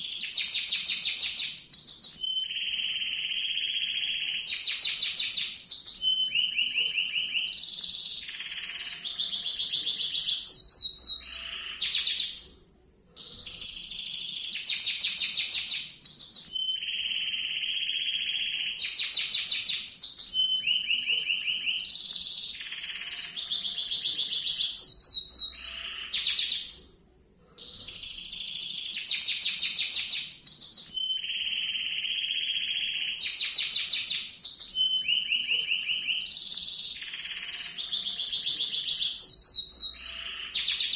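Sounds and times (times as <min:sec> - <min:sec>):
canary singing trills: 0:00.0 - 0:12.5, 0:13.2 - 0:26.8, 0:27.6 - 0:40.9.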